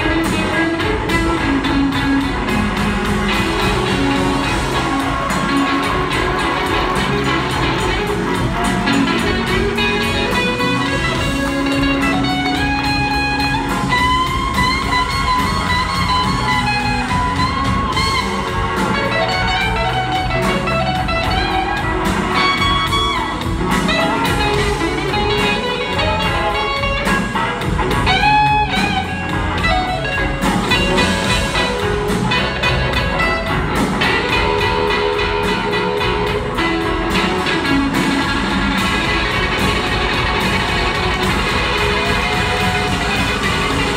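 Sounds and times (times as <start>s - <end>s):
lead guitar solo: 0.0s - 43.9s
slow blues band playing: 0.0s - 43.9s.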